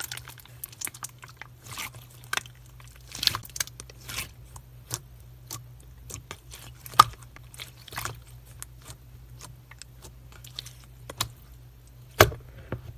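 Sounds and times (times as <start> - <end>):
crunchy slime crackling: 0.0 - 12.4.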